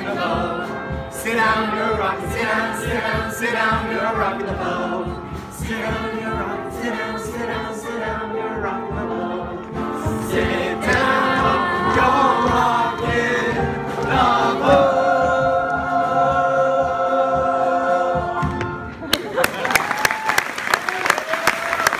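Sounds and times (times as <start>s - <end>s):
group singing in chorus: 0.0s - 19.1s.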